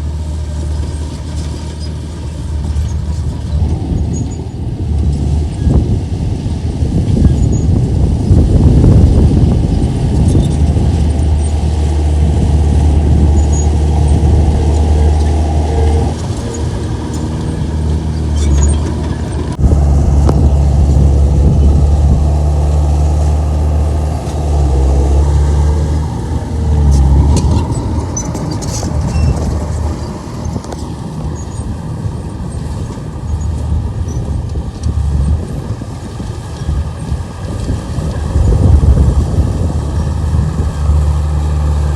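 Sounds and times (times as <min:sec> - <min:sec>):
bulldozer diesel engine working: 0:00.0 - 0:41.9.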